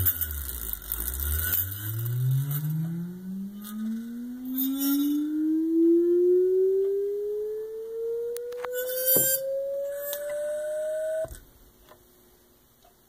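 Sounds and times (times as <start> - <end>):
brief buzz: 0.0 - 11.4
rising vibration shaker tone: 0.0 - 11.4.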